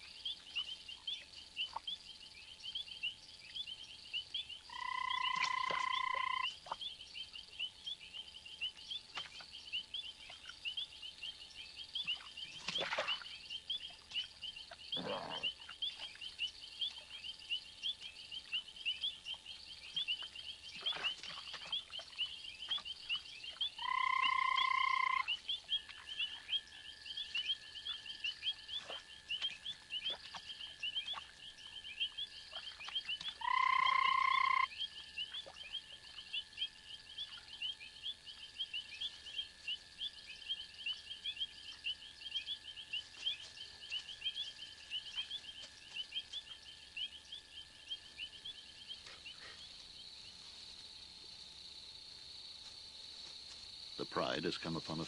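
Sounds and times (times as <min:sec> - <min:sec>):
frogs chirping: 0:00.0 - 0:55.0.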